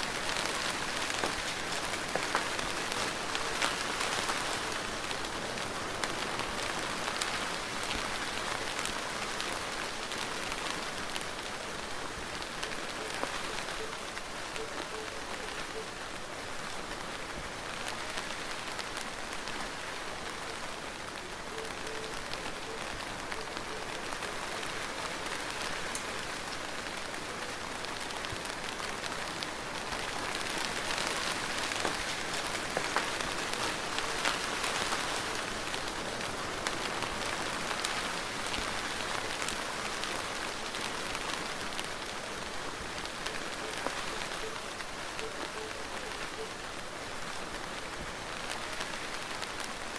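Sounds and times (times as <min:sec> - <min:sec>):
rain pattering on surfaces: 0:00.0 - 0:49.9.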